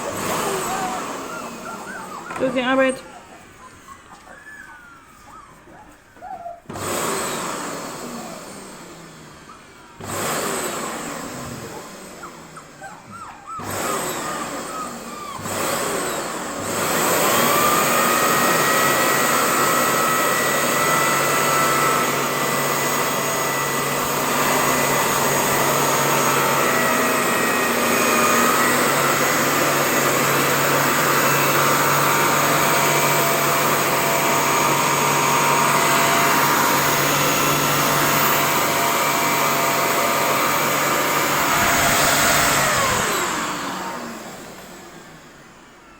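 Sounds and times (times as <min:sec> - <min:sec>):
vacuum cleaner motor: 0:00.0 - 0:45.9.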